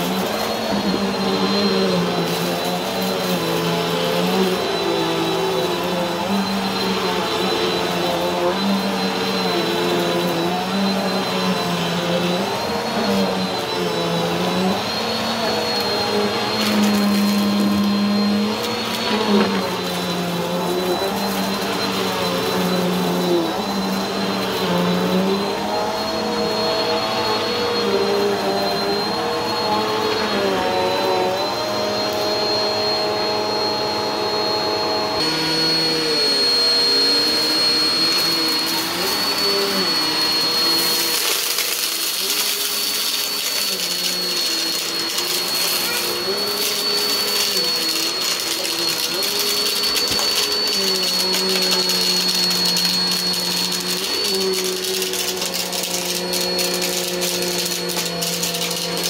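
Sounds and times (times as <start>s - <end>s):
upright vacuum cleaner on carpet: 0.0s - 59.0s.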